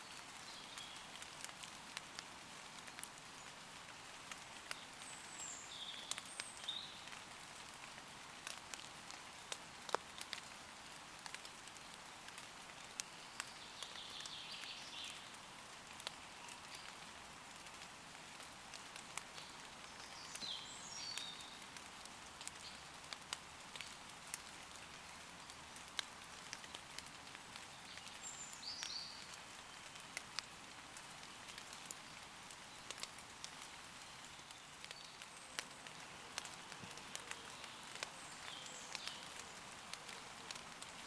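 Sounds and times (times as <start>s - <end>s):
rain pattering on leaves: 0.0s - 41.0s.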